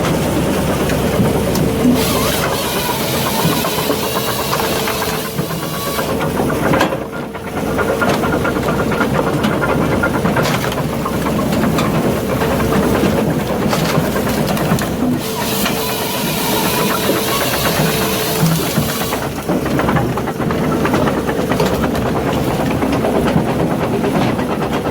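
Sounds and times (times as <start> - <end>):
firewood processor diesel engine: 0.0 - 24.9
machine knocks and clatter: 0.0 - 24.9.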